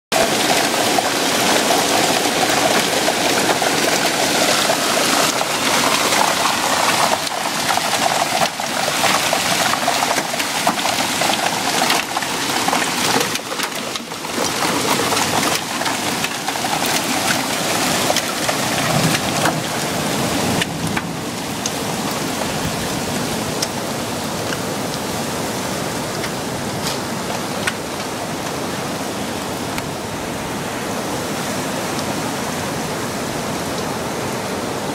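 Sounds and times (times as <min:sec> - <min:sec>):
hailstones ticking: 0:00.2 - 0:29.9
rain hissing: 0:00.2 - 0:34.9.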